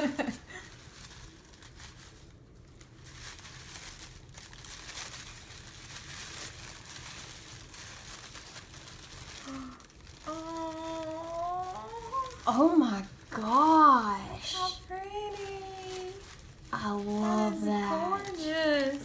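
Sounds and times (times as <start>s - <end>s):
wrapping paper crinkling: 0.0s - 19.0s
paper tearing: 3.3s - 19.0s.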